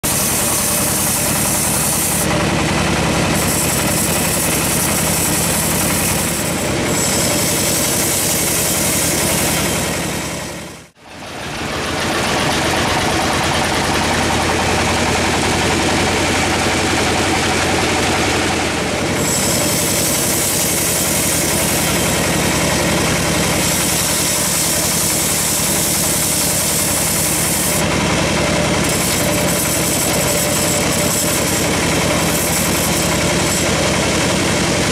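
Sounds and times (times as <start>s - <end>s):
band saw cutting log: 0.0s - 34.9s.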